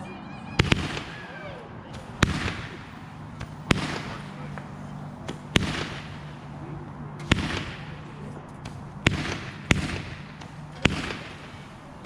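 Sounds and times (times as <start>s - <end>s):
fireworks bangs with crackly tails: 0.5s - 12.0s.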